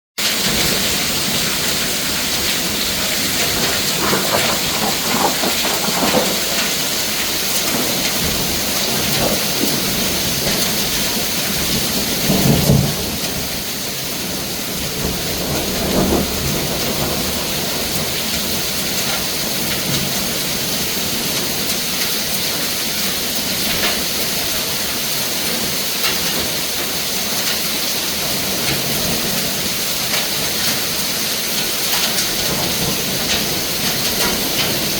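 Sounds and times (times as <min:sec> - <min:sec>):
hail and heavy rain: 0:00.2 - 0:34.9.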